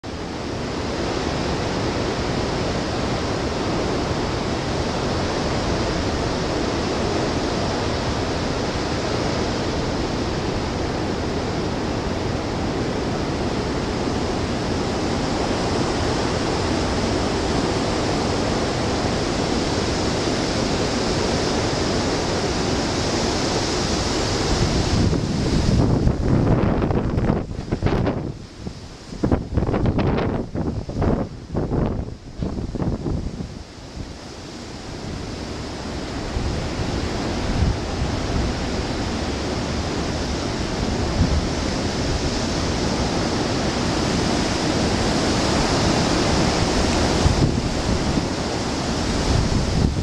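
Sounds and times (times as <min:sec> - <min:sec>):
gust buffeting the microphone: 0:00.0 - 0:50.0
strong wind rushing: 0:00.0 - 0:50.0.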